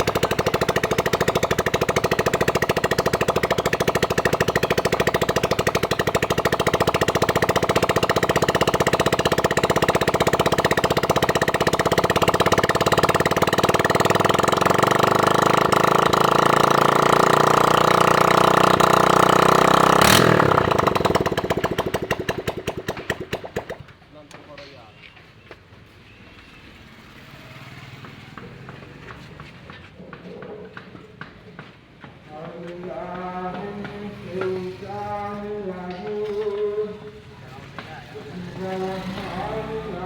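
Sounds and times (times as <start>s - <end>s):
motorcycle engine running: 0.0s - 24.0s, 27.0s - 29.8s, 32.3s - 40.0s.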